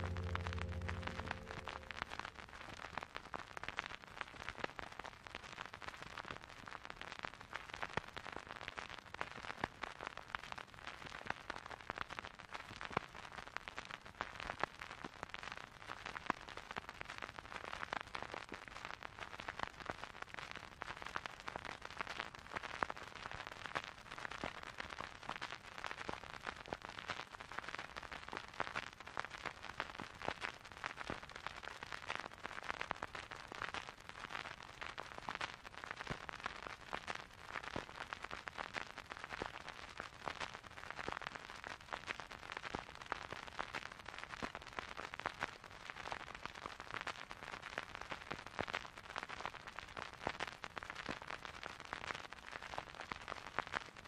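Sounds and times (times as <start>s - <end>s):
dense irregular crackle of clicks: 3.8s - 54.0s.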